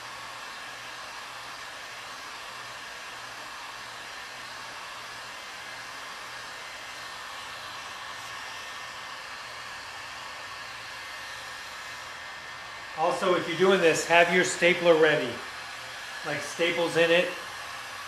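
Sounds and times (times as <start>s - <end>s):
heat gun hissing air: 0.0s - 18.0s.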